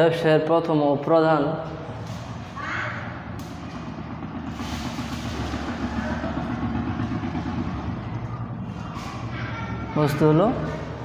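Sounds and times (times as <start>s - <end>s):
low motor rumble: 0.6s - 11.0s.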